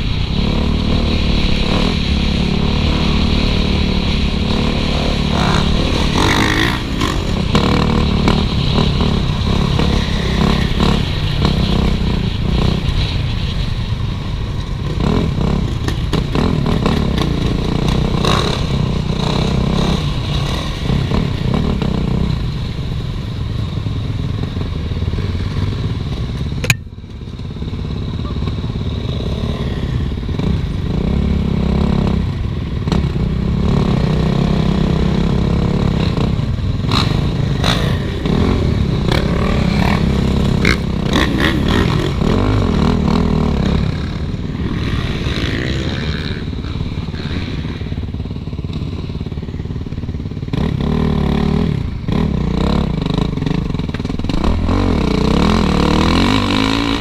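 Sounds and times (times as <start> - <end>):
dirt bike engine revving: 0.0 - 13.1, 14.8 - 22.3, 28.9 - 49.3, 50.4 - 57.0.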